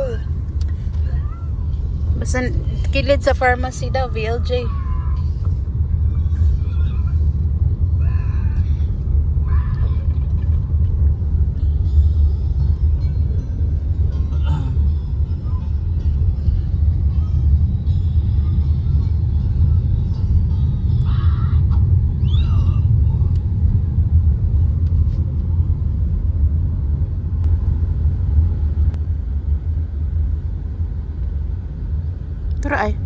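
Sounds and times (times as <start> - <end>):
vehicle interior rumble: 0.0 - 33.0.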